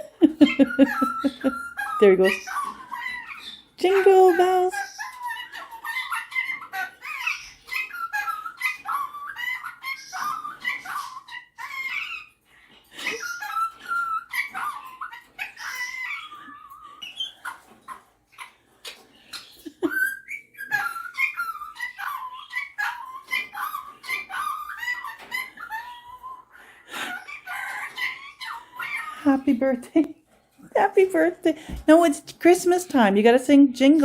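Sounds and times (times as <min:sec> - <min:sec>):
parrot warbling and chattering: 0:00.0 - 0:31.6.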